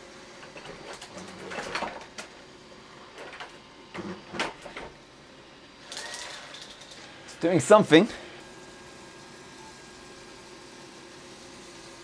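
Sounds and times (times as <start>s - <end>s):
robot vacuum motors whirring: 0.0s - 12.0s.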